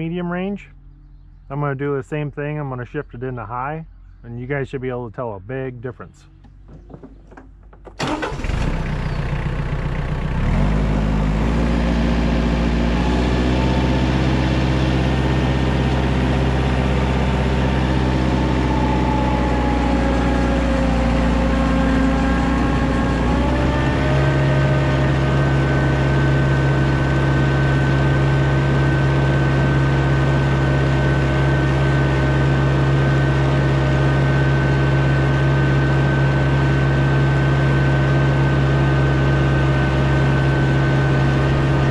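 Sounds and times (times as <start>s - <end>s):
drive whine: 0.0s - 41.9s
tractor diesel engine running: 0.0s - 41.9s.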